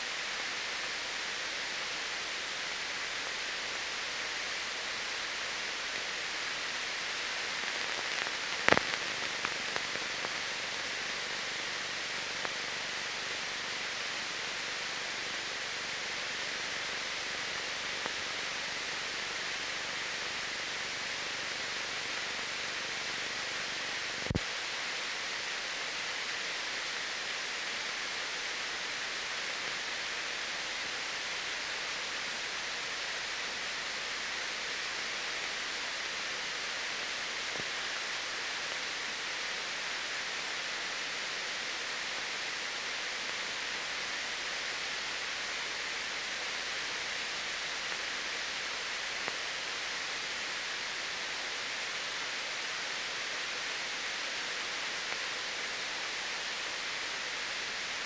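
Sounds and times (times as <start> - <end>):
film soundtrack hiss: 0.0 - 58.0.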